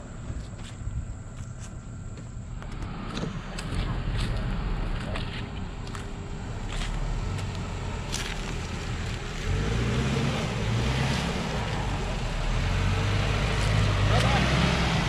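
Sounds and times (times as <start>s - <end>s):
car engine pulling under load: 2.0s - 15.0s.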